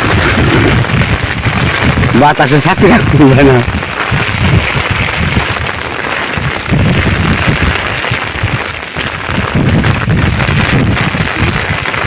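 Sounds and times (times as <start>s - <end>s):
rain hissing: 0.0s - 12.0s
wind buffeting microphone: 0.0s - 12.0s.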